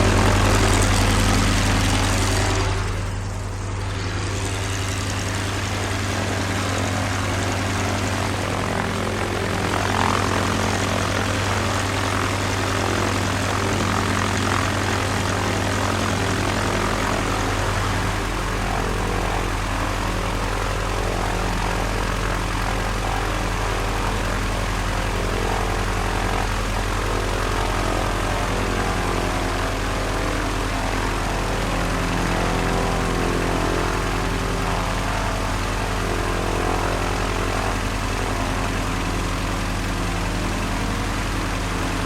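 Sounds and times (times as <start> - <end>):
propeller airplane engine droning: 0.0 - 42.0.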